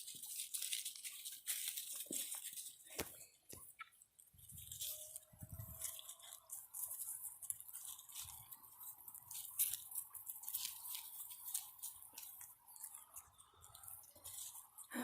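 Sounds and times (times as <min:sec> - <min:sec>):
puppies chewing and pawing shoes: 0:00.0 - 0:15.0.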